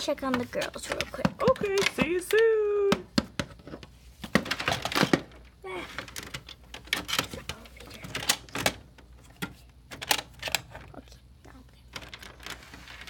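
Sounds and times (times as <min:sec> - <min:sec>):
plastic toys clicking and knocking: 0:00.0 - 0:11.0, 0:11.8 - 0:13.0.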